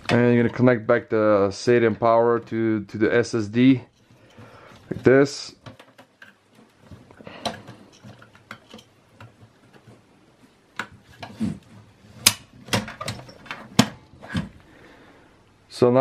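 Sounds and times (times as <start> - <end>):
cable handling rustle: 1.7 - 14.7.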